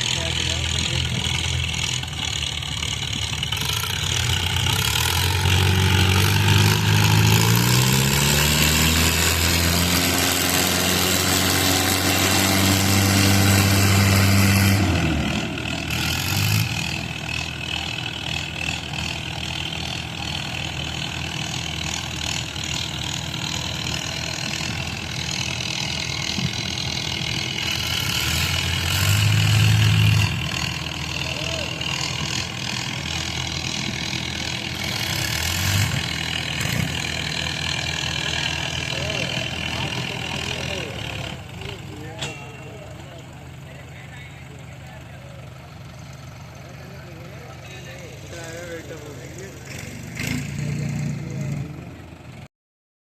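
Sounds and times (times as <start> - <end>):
diesel tractor engine revving: 0.0 - 52.5.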